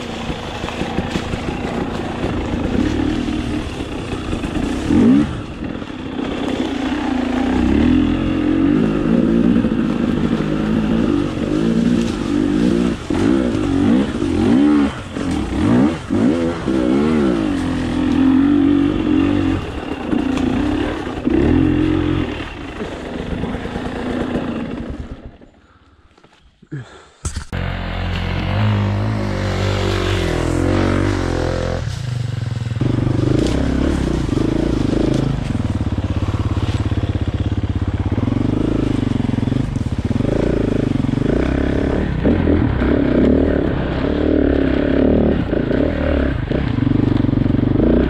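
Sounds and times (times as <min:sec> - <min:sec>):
motorcycle engine revving: 0:00.0 - 0:25.8, 0:27.4 - 0:48.0.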